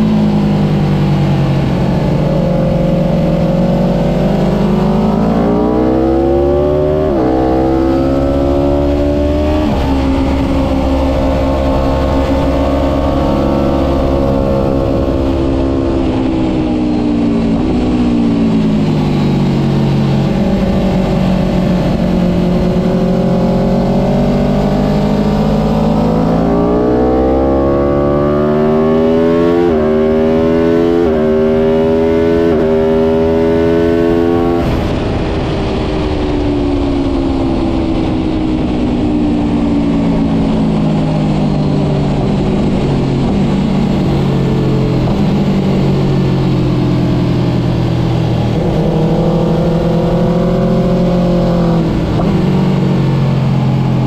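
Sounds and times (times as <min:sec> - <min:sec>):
motorcycle engine at speed: 0:00.0 - 0:54.0.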